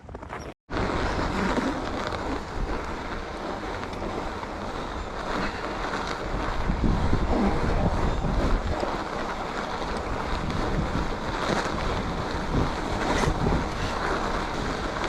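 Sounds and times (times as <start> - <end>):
wind rush over microphone: 0.0 - 15.0.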